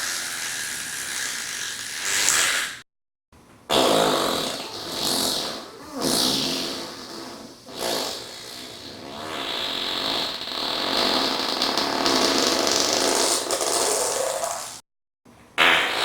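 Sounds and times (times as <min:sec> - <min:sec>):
farts: 0:00.0 - 0:02.8, 0:03.7 - 0:14.8, 0:15.6 - 0:16.0.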